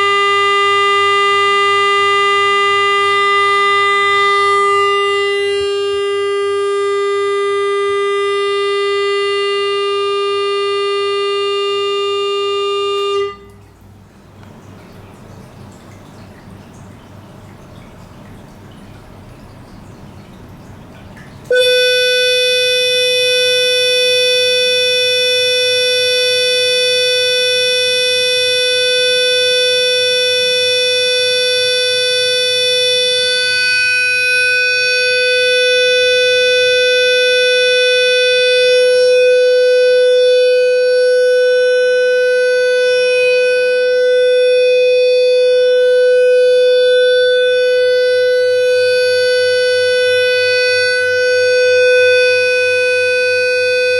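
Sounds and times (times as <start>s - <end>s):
electronic test tone: 0.0s - 13.7s, 21.5s - 53.9s.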